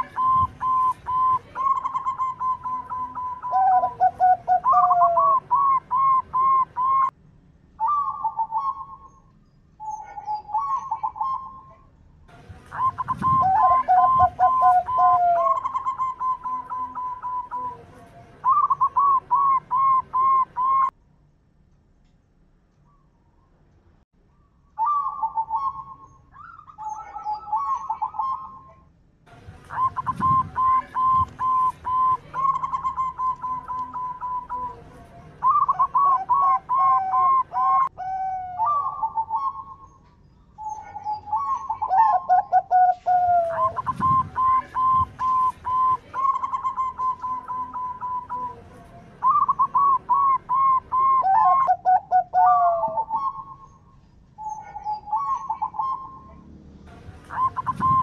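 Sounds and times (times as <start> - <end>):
dove cooing: 0.0 - 7.1, 7.8 - 9.1, 9.8 - 11.9, 12.7 - 20.9, 24.8 - 28.7, 29.7 - 40.0, 40.6 - 53.7, 54.4 - 56.4, 57.2 - 58.0.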